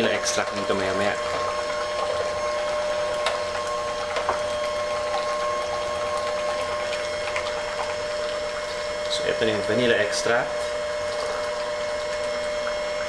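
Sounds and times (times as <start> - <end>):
electric hand mixer whisking: 0.0 - 13.0.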